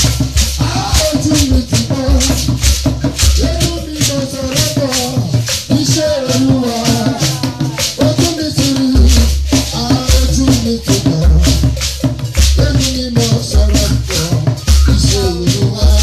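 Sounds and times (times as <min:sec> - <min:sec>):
rattling percussion beat: 0:00.0 - 0:16.0
man singing into microphone: 0:00.6 - 0:02.6, 0:03.2 - 0:11.8, 0:12.5 - 0:16.0.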